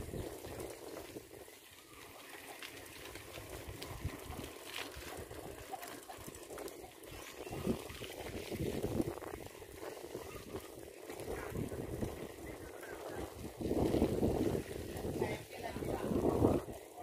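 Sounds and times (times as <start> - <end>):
wind buffeting microphone: 0.0 - 2.1, 2.7 - 17.0.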